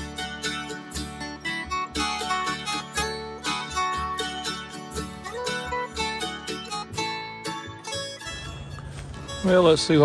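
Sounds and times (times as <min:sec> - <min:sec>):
country acoustic guitar music: 0:00.0 - 0:10.0.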